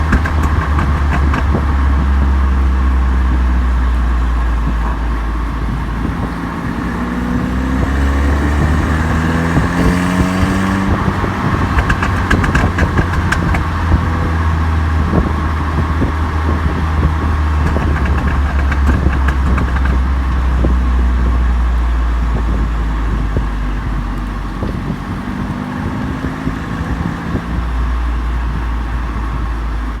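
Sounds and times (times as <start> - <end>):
car exhaust revving: 0.0 - 30.0
exhaust crackles and pops: 0.0 - 30.0.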